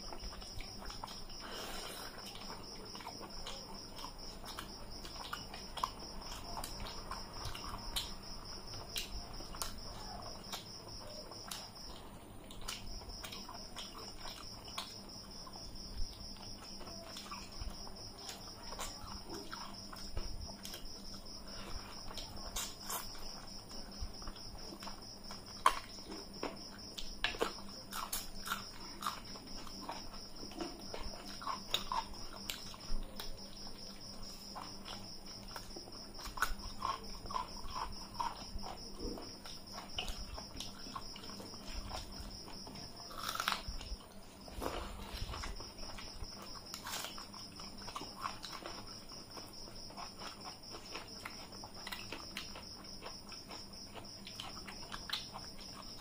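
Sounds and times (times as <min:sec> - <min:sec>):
chewing and lip smacks: 0:00.0 - 0:56.0.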